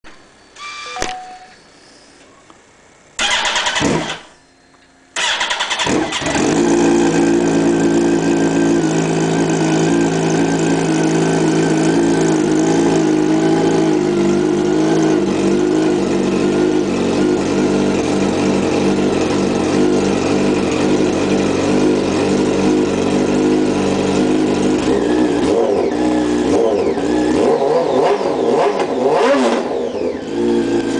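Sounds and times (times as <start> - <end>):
motorcycle engine idling and revving: 3.2 - 4.4, 5.2 - 30.9.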